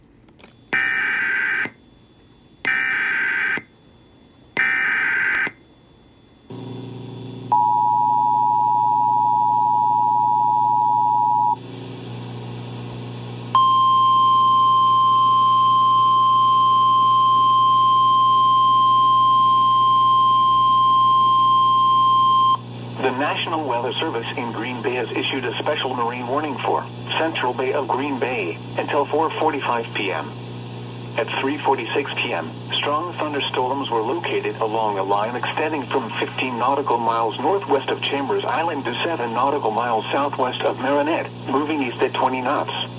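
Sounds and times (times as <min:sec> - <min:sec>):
steady warning alarm tone: 0:00.6 - 0:06.7, 0:07.4 - 0:11.6, 0:13.5 - 0:42.9.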